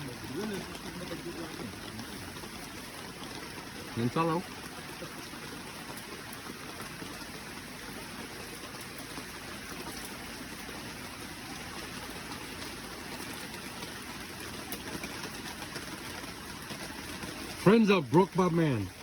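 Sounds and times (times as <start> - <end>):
river water running: 0.0 - 19.0.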